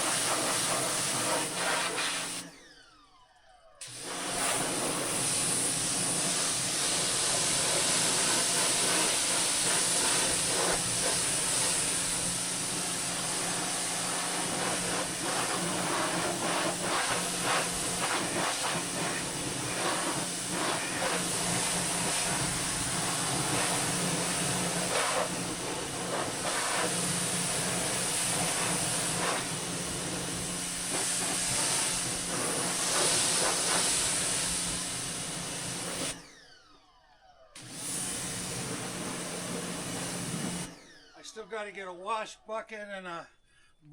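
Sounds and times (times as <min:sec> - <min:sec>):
pressure washer water spray hiss: 0:00.0 - 0:02.5, 0:03.9 - 0:36.2, 0:37.9 - 0:40.7.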